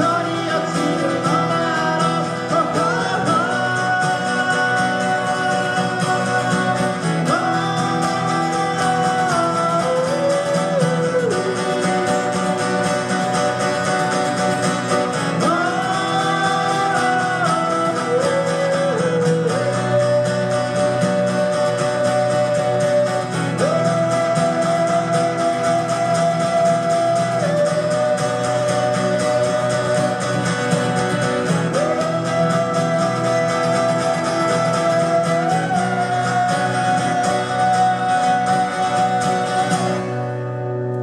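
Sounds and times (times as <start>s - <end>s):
two guitars playing: 0.0s - 41.0s.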